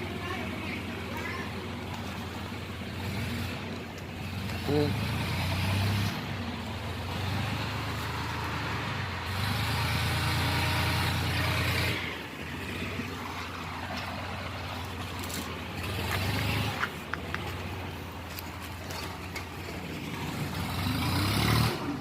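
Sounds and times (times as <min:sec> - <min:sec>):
heavy vehicle engine drone: 0:00.0 - 0:22.0.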